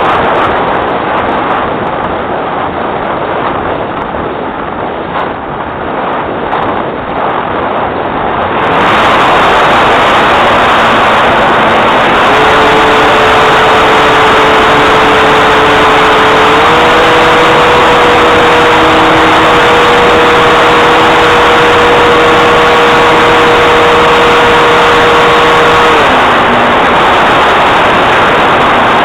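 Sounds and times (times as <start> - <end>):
airplane engine and propeller drone: 0.0 - 29.0.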